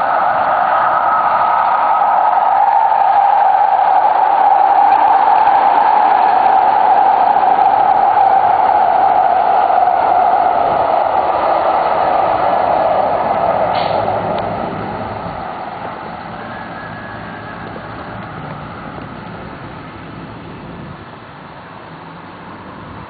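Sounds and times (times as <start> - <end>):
light-rail train rumbling: 0.0 - 23.0.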